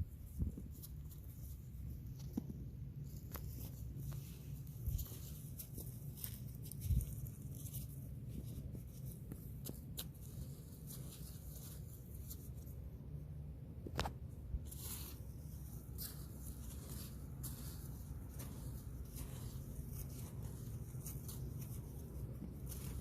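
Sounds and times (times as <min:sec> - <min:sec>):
soil and plants rustling: 0:00.0 - 0:23.0
steady low hum: 0:00.0 - 0:23.0.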